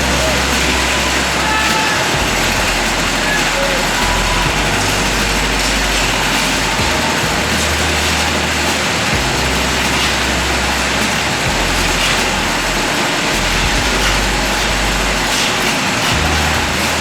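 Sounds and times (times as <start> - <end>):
heavy engine running: 0.0 - 17.0
loud rushing noise: 0.0 - 17.0.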